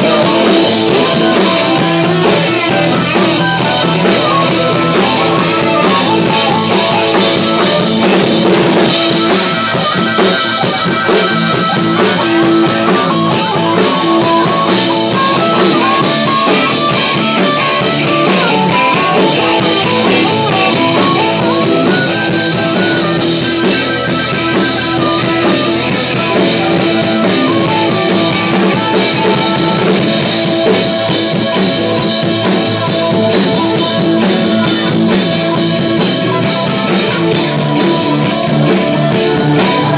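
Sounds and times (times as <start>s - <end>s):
harmonica playing lead lines: 0.0s - 39.9s
live rock band playing: 0.0s - 39.9s.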